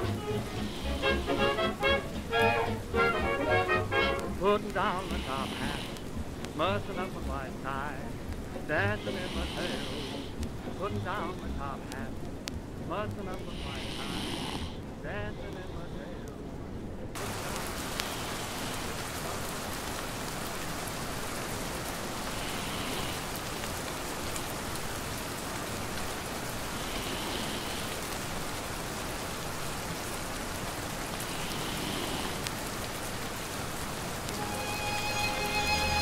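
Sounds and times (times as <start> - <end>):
rain pattering: 0.0 - 36.0.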